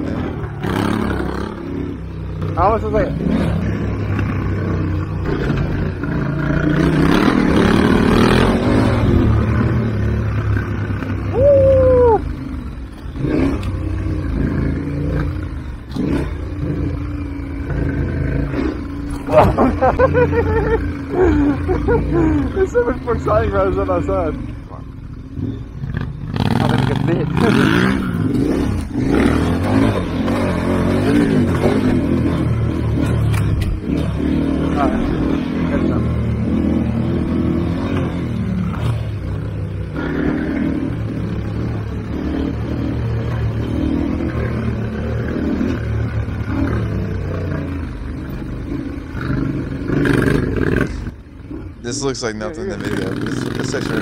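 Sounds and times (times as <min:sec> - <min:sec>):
motorcycle engines droning: 0:00.0 - 0:54.0.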